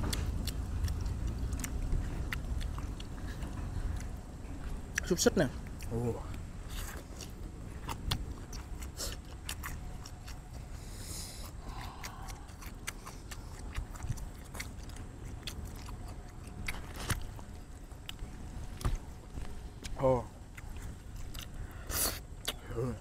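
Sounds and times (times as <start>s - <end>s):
biting and chewing food: 0.0s - 23.0s.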